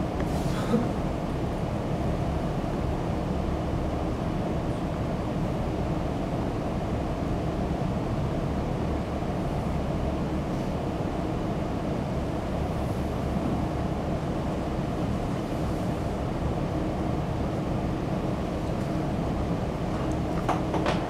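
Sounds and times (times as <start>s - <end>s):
classroom room noise hum: 0.0s - 21.0s.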